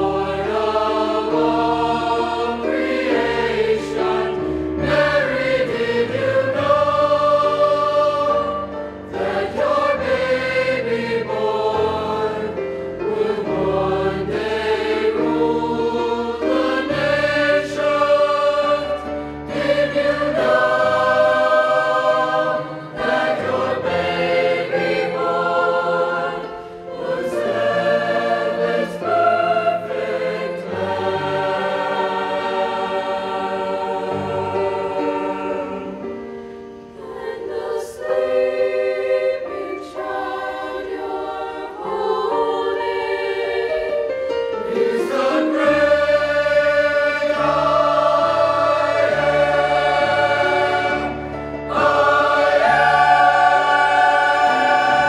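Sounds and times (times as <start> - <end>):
choir singing in parts: 0.0 - 55.0.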